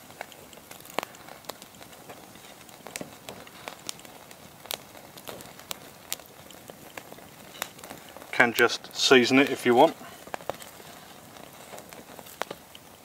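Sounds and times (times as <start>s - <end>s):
campfire crackling: 0.0s - 13.0s
faint steady hiss: 0.0s - 13.0s.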